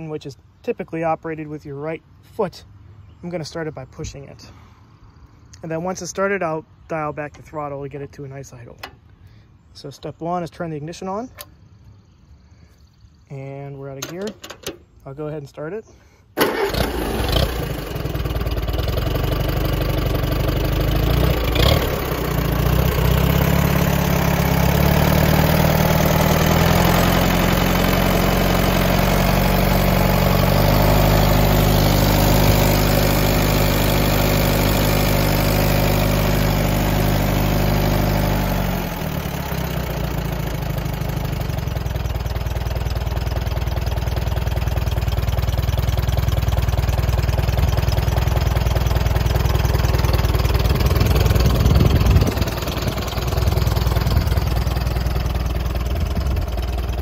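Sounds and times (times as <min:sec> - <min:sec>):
tractor engine starting and running: 0:05.5 - 0:12.0, 0:13.3 - 0:57.0.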